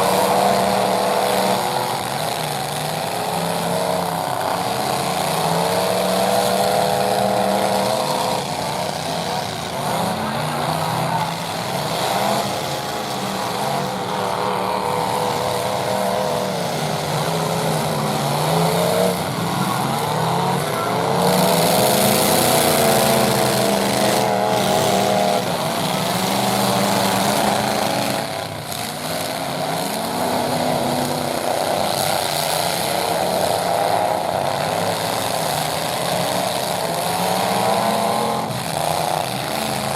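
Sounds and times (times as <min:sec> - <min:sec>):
pickup truck engines revving: 0:00.0 - 0:39.9.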